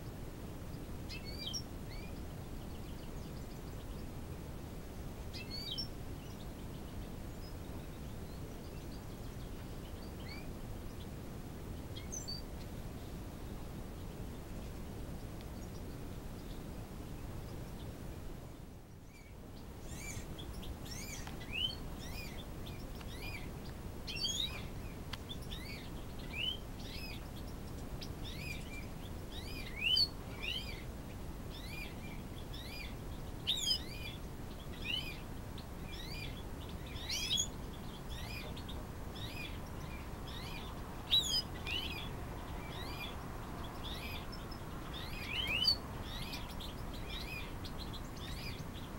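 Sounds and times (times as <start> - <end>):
birds chirping upswept calls: 0.0 - 48.9
low background hiss: 0.0 - 48.9.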